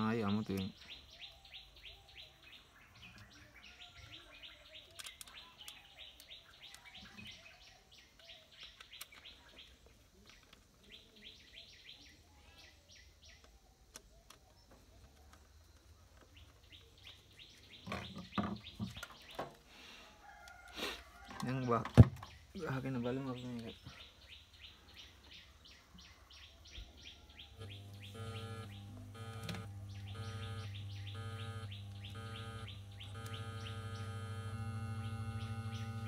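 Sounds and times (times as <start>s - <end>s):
birds chirping: 0.0s - 19.7s, 21.4s - 36.0s.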